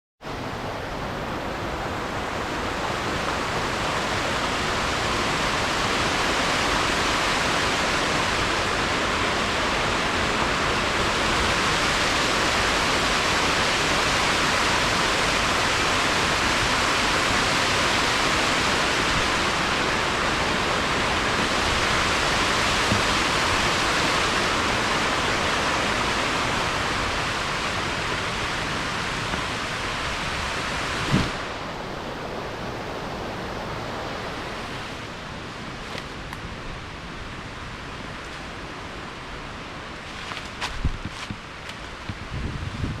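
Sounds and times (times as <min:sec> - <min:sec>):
waterfall rushing: 0:00.2 - 0:40.6.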